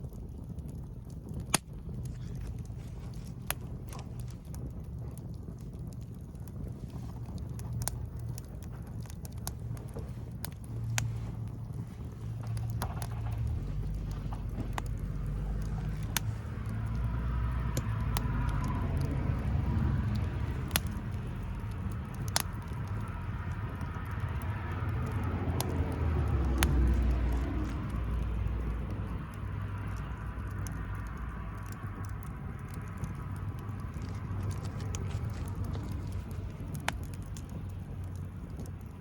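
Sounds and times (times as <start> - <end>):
low steady rumble: 0.0 - 39.0
wood fire crackling: 0.0 - 39.0.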